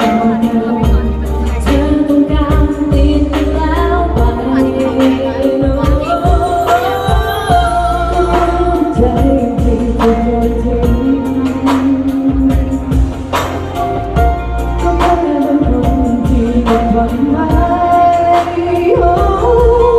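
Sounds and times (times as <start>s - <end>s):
backing music with heavy bass: 0.0s - 19.9s.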